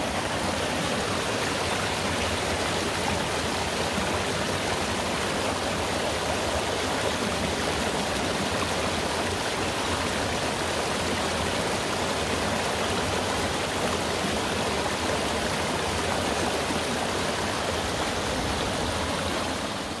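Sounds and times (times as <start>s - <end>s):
mountain stream flowing: 0.0s - 20.0s.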